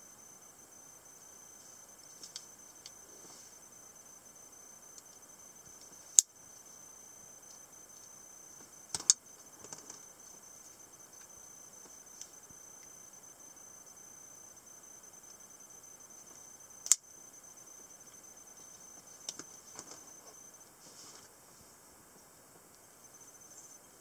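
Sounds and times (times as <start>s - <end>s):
faint high-pitched whine: 0.0s - 24.0s.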